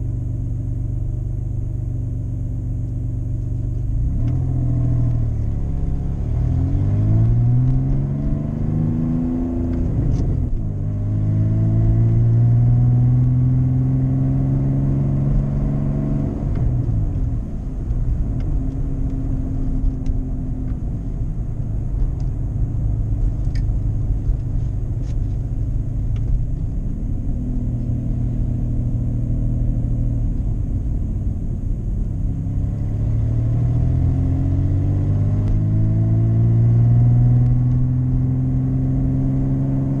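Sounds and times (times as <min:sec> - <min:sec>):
car engine drone: 0:00.0 - 0:40.0
road rumble: 0:00.0 - 0:40.0.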